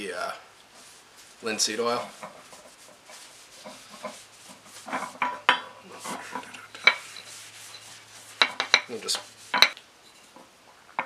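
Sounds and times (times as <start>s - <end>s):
rag rubbing wood: 0.7s - 9.8s.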